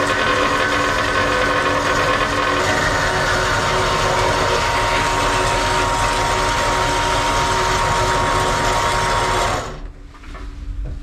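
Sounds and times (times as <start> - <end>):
bandsaw cutting metal bar: 0.0 - 9.8.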